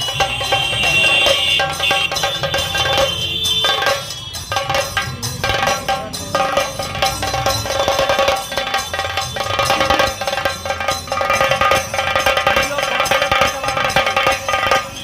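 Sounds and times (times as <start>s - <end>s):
drum ensemble playing fast rhythm: 0.0s - 15.0s
steady ringing tone: 0.0s - 15.0s.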